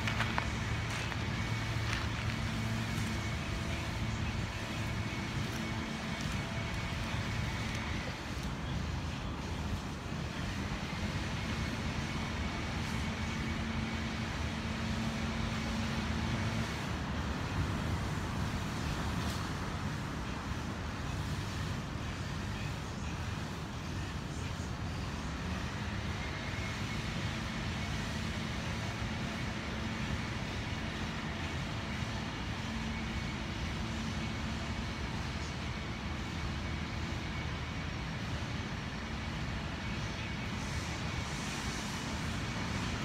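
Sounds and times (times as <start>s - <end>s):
droning hum: 0.0s - 43.0s
road traffic rumble: 0.0s - 43.0s.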